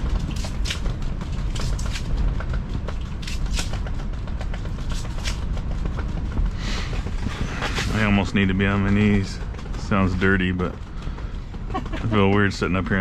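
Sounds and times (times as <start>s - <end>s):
strong wind rumble: 0.0s - 13.0s.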